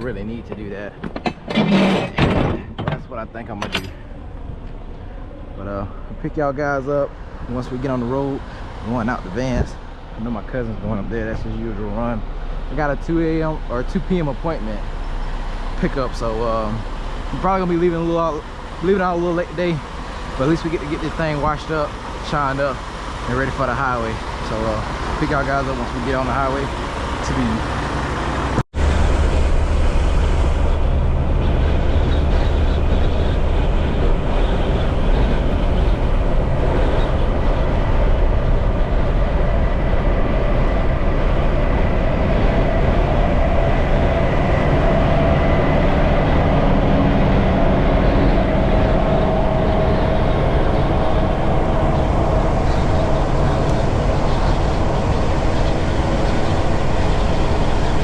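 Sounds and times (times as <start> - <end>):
road noise: 0.0 - 58.0
truck engine rumble: 0.0 - 58.0.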